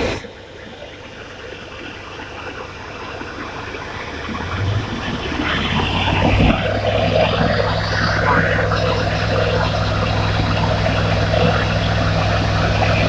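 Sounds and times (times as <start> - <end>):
low engine hum: 0.0 - 13.0
water pump rushing: 0.0 - 13.0.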